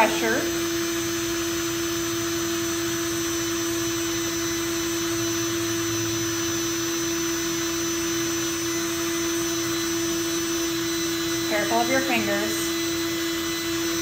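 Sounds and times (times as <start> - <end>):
cordless drill boring through cork: 0.0 - 14.0.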